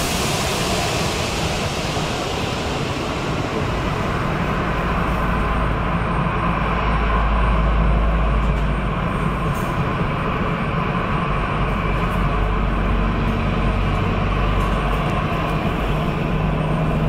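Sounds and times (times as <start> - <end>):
jet engine rumble and whine: 0.0 - 17.0.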